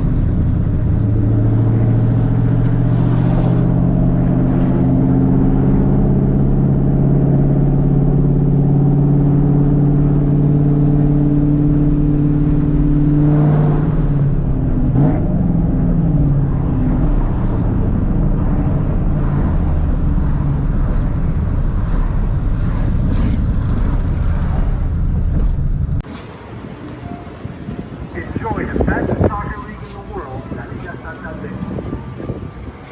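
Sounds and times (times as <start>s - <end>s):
car exhaust droning: 0.0s - 32.9s.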